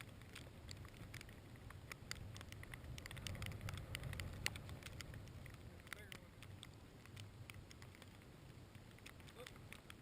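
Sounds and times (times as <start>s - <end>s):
light ticks and clicks: 0.0s - 10.0s
wind rumble on microphone: 0.0s - 10.0s.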